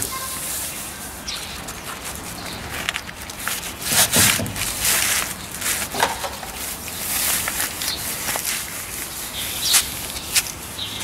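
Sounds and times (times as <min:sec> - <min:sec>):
plastic sheet rustling and crinkling: 0:00.0 - 0:11.0.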